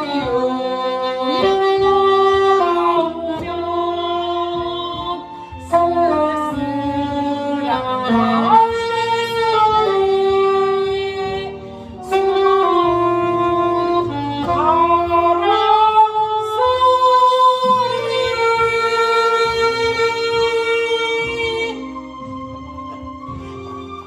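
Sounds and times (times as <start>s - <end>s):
backing track: 0.0s - 24.0s
saxophone melody: 0.0s - 24.0s.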